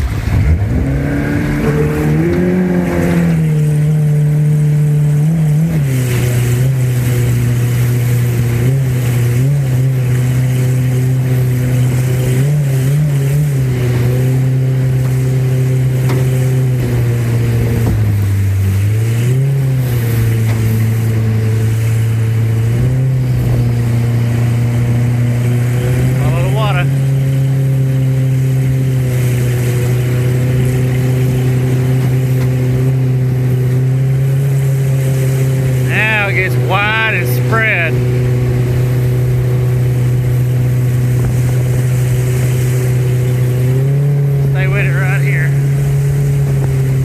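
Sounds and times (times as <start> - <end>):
outboard motor running: 0.0 - 47.0.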